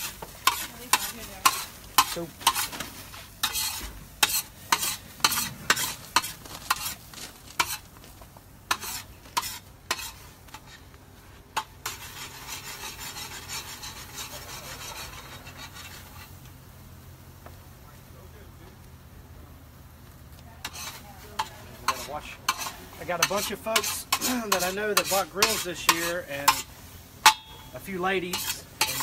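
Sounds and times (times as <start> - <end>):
metal spatula scraping and tapping: 0.0 - 7.8, 8.7 - 16.5, 20.6 - 29.0
food sizzling: 0.0 - 29.0.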